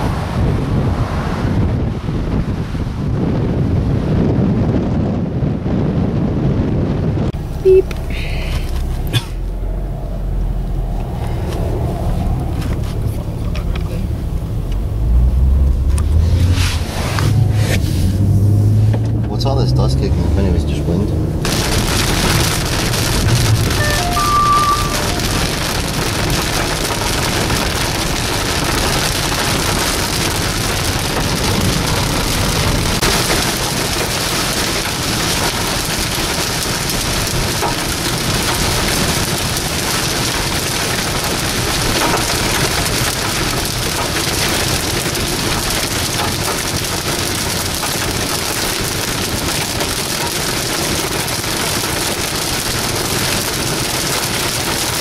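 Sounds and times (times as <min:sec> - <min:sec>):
heavy rain on car: 0:00.0 - 0:55.0.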